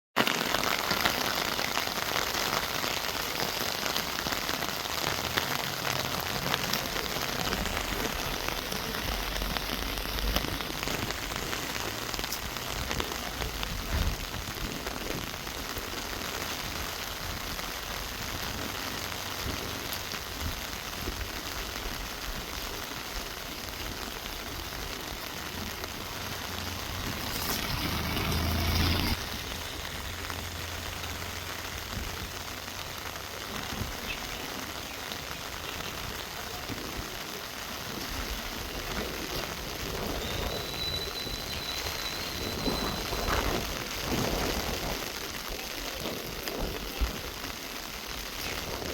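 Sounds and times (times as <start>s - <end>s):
rain falling on trees: 0.2s - 48.9s.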